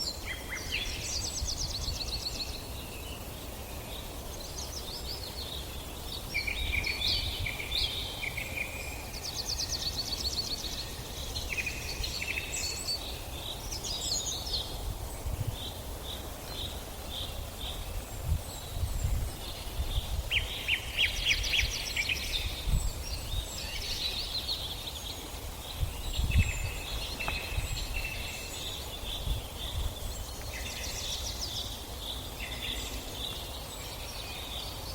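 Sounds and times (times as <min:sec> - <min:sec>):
birds singing and chirping: 0:00.0 - 0:34.9.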